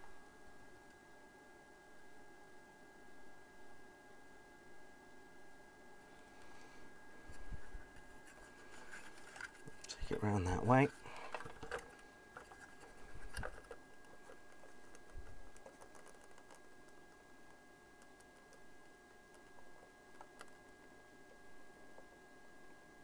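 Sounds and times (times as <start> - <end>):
faint steady whine: 0.0 - 23.0.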